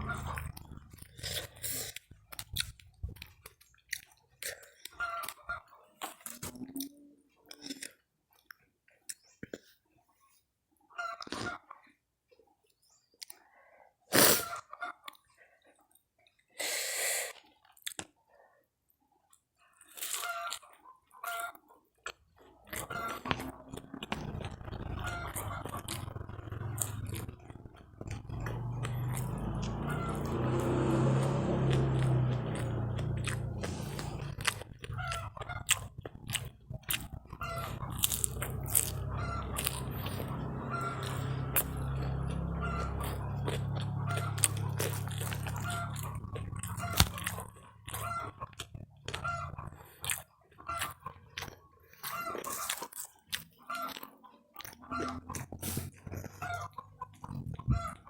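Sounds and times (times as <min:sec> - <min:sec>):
person chewing crunchy snacks: 0:00.0 - 0:05.4, 0:07.5 - 0:09.8, 0:16.6 - 0:18.2, 0:19.8 - 0:58.0.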